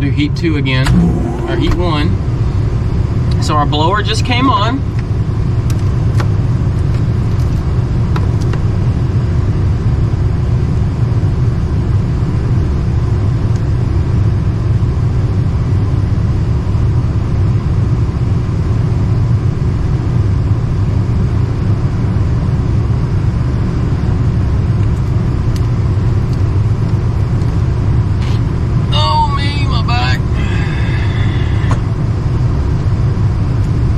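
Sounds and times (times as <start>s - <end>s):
blower running with low rumble: 0.0s - 33.9s.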